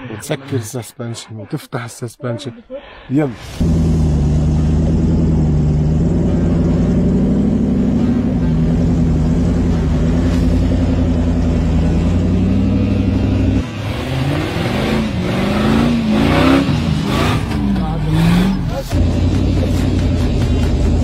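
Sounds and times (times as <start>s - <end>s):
truck engine running at low revs: 3.5s - 21.0s.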